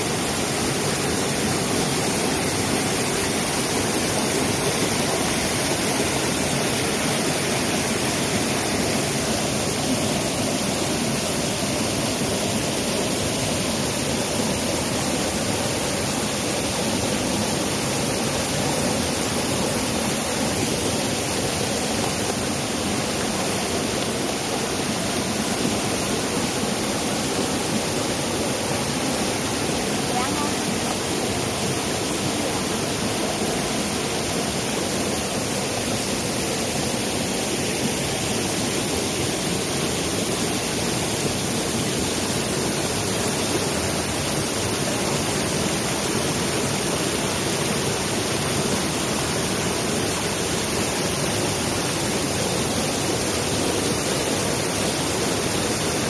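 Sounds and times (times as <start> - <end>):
stream pouring over boulders: 0.0 - 56.0.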